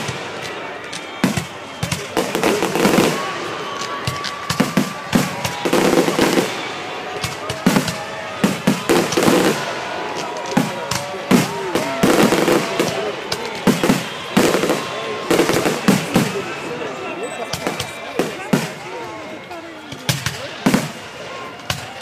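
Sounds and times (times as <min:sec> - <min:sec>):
fireworks whistling: 0:00.0 - 0:19.0
fireworks bangs: 0:00.0 - 0:19.1, 0:19.8 - 0:22.0
fireworks crackling: 0:00.0 - 0:22.0.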